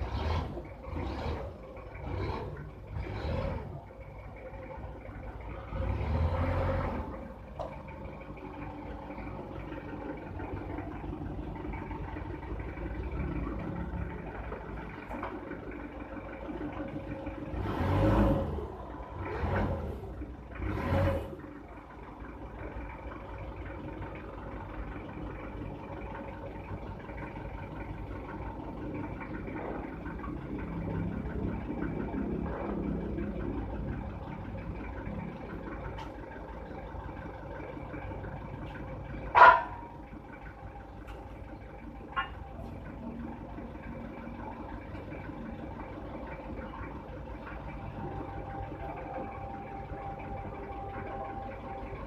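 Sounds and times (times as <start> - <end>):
machine engine humming: 0.0 - 52.0.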